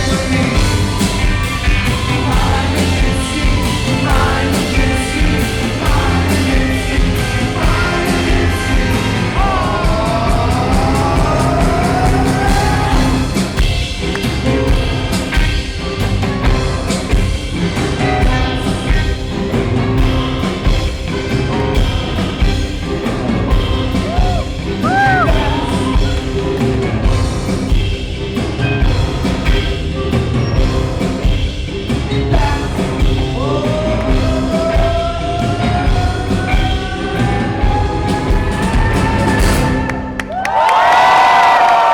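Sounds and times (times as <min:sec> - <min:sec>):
live rock band playing: 0:00.0 - 0:40.2.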